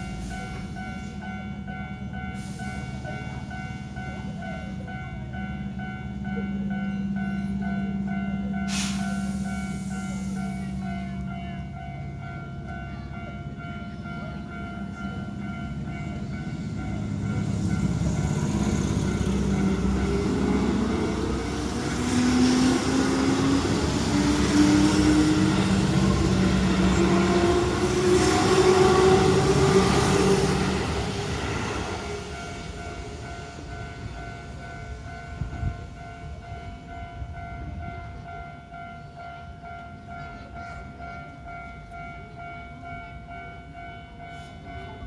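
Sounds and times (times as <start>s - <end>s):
electric train passing: 0.0s - 45.0s.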